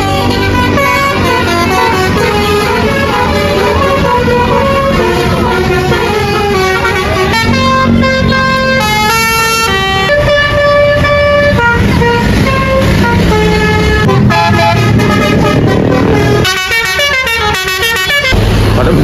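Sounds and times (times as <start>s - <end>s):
bus horn playing a melody: 0.0s - 18.4s
bus engine: 0.0s - 19.0s.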